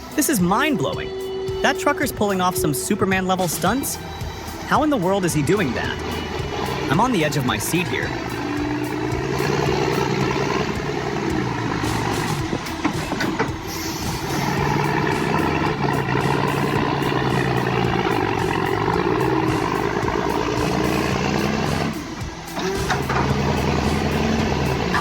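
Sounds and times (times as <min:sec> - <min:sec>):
heavy truck engine running: 0:00.0 - 0:25.0.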